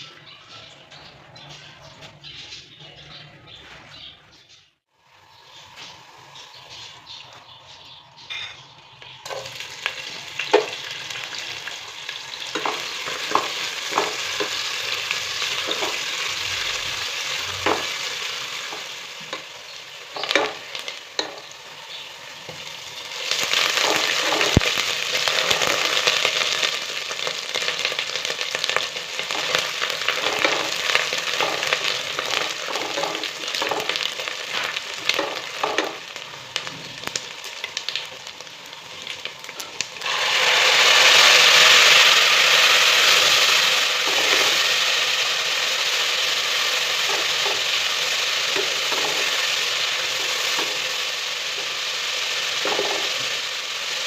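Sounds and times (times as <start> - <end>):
food sizzling in a pan: 4.9 - 54.0.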